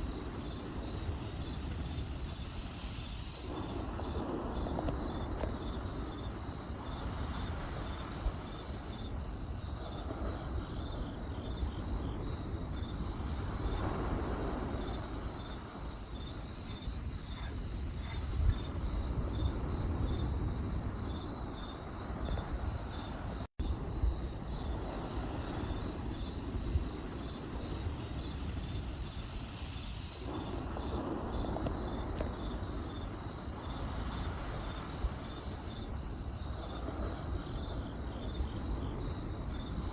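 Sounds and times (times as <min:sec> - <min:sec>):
campfire crackling and popping: 0:00.0 - 0:23.2, 0:23.8 - 0:39.9
crickets chirping: 0:00.0 - 0:39.9.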